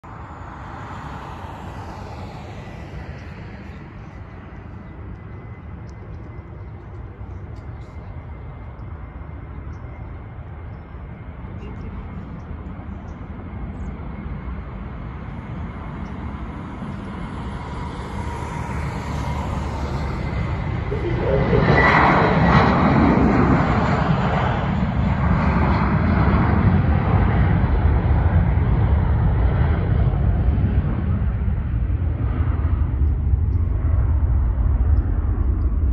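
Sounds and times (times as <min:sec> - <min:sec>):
distant jet engines rumbling: 0:00.0 - 0:35.9.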